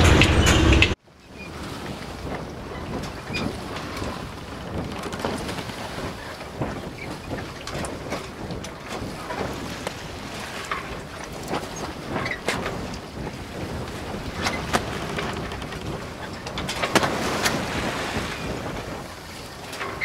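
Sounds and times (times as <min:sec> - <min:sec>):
knocks and rattles: 0:00.0 - 0:20.0
rushing noise in boat cabin: 0:00.0 - 0:20.0.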